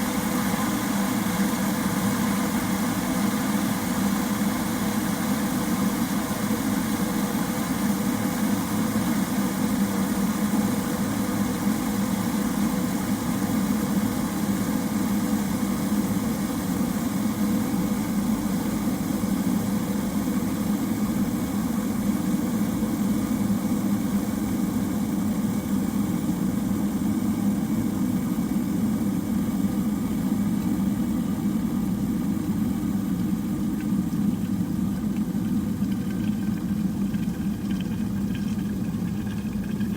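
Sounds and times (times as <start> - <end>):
electric kettle rumbling: 0.0 - 39.9.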